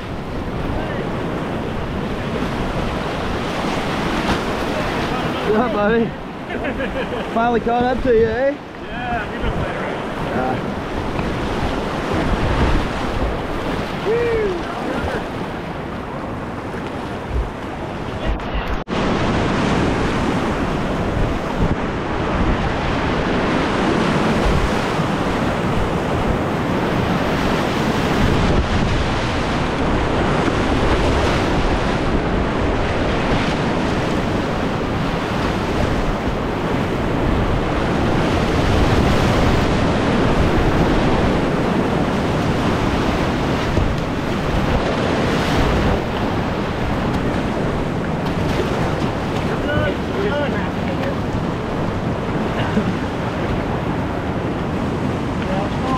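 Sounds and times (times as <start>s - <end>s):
river rapids rushing: 0.6s - 17.4s, 18.0s - 55.9s.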